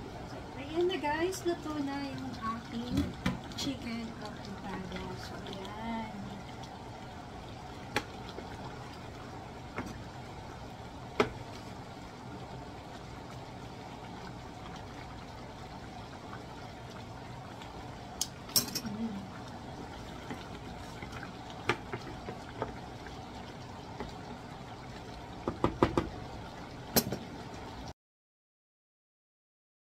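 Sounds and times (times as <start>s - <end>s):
stew simmering: 0.0s - 27.9s.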